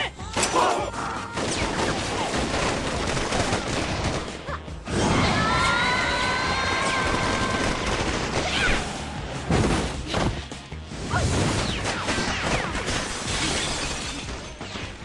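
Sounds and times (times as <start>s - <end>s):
action music with hits: 0.0s - 15.0s.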